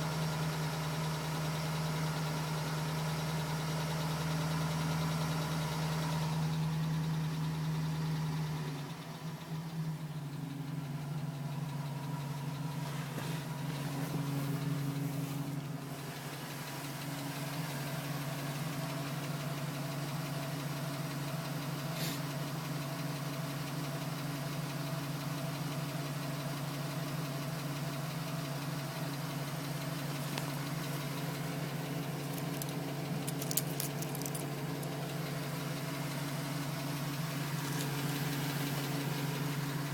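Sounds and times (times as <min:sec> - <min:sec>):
truck engine idling: 0:00.0 - 0:39.9
engine tapping: 0:06.4 - 0:39.9.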